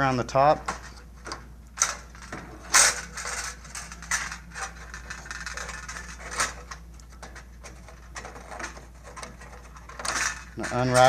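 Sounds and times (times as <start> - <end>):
frame handling clatter: 0.6 - 11.0.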